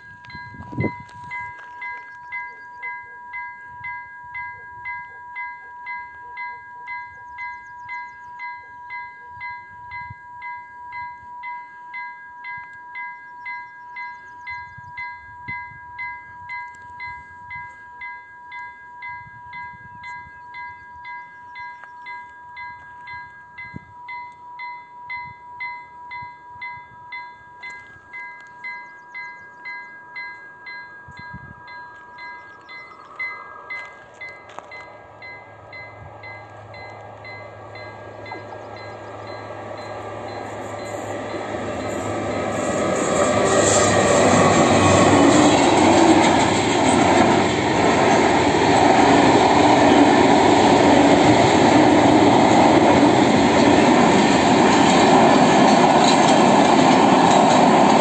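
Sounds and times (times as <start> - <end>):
train rumble: 0.0 - 11.7, 12.4 - 58.0
level crossing bell ringing: 0.0 - 55.9.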